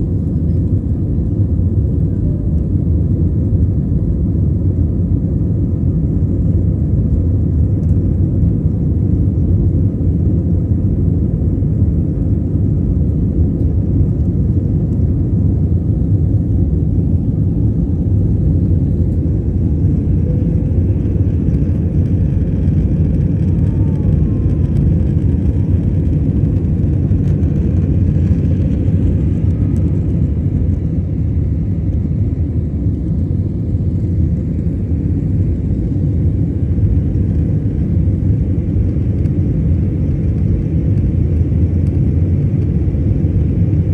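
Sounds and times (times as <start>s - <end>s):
jet engines rumbling in cabin: 0.0s - 43.9s.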